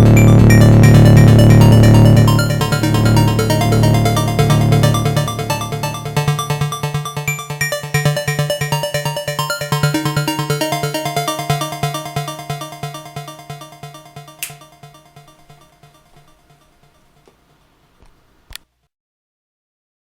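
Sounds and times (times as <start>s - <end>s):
electronic dance music: 0.0s - 16.6s.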